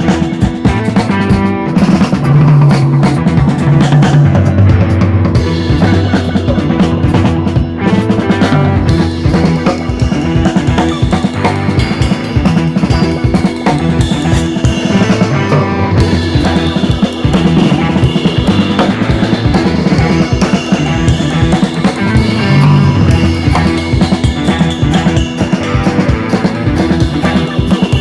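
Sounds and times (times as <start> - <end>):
rock music with drum beat: 0.0 - 28.0.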